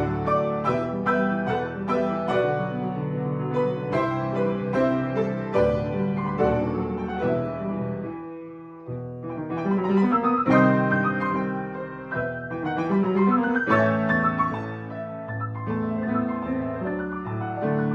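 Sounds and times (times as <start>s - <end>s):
piano playing: 0.0s - 17.9s.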